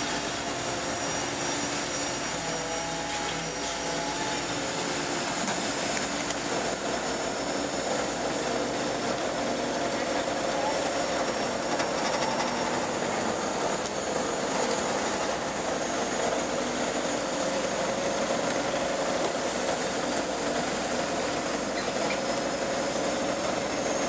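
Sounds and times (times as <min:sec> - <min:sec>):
excavator diesel engine running: 0:00.0 - 0:24.0
faint high whine: 0:00.0 - 0:24.0.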